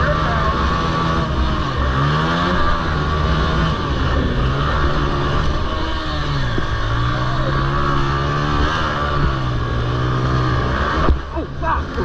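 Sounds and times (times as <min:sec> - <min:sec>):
quad engine running hard: 0:00.0 - 0:12.0.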